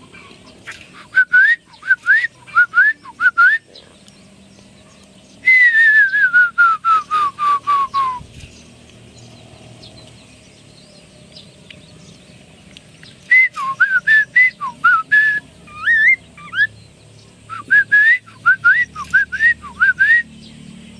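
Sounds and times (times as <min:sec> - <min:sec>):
bird whistling song: 0:00.0 - 0:20.9.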